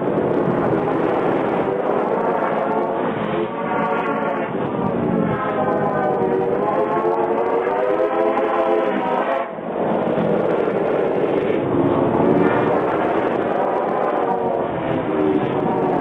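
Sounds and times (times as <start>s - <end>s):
train drone: 0.0s - 16.0s.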